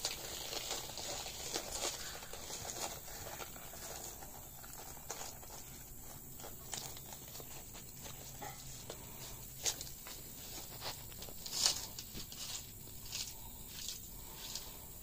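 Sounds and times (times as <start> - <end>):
rustling of dry leaves and straw: 0.0 - 15.0
tortoise crunching lettuce: 0.0 - 15.0.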